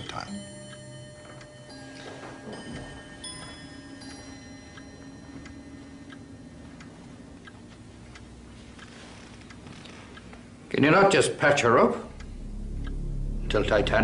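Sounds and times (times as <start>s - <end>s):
low steady hum: 0.0s - 14.0s
mechanical clock ticking: 0.0s - 14.0s.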